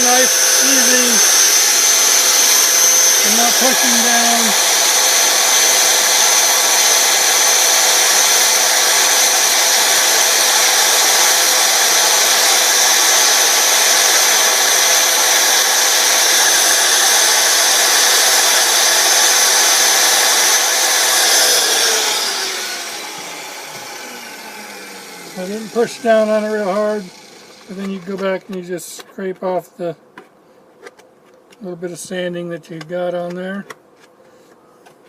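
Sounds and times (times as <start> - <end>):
belt sander whining: 0.0 - 28.6.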